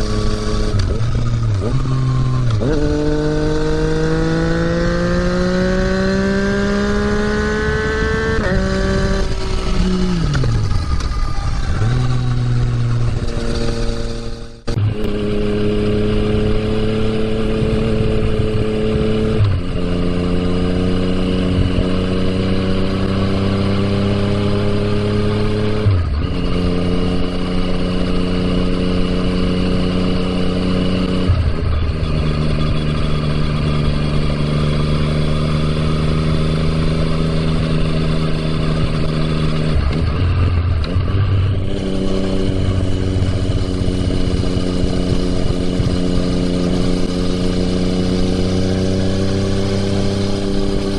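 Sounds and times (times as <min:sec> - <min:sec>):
motorcycle engine while riding: 0:00.0 - 0:50.9.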